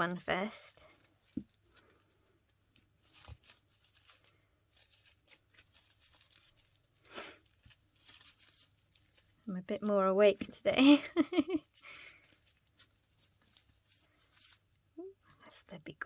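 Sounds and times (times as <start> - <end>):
cardboard tearing: 0.4 - 10.6, 11.6 - 14.8.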